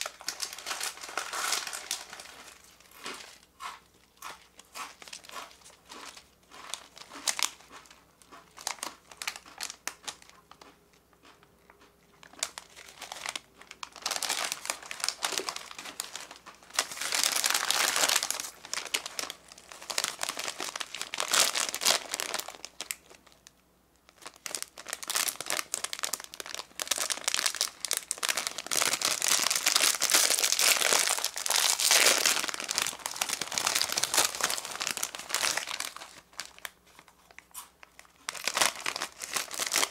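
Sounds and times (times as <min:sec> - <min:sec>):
snack bags crinkling: 0:00.0 - 0:39.9.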